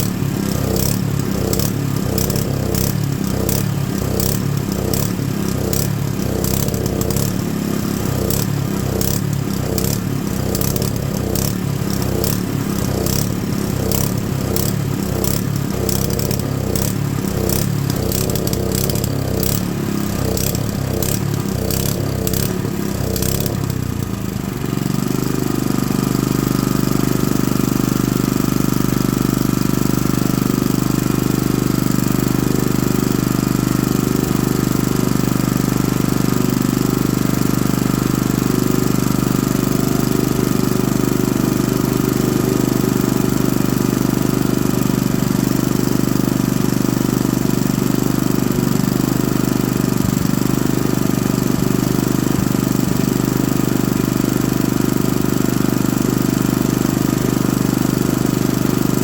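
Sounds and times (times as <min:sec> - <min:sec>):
engine clatter: 0:00.0 - 0:59.0
small engine running: 0:00.0 - 0:59.0.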